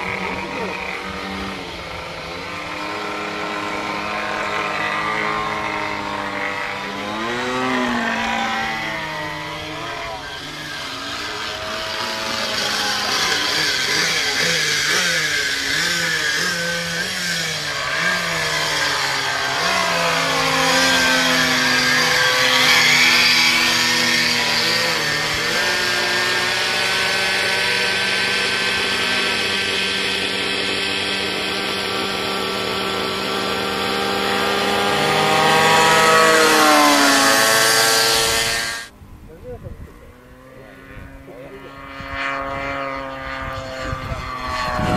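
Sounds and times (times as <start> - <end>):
model airplane engine: 0.0 - 44.9.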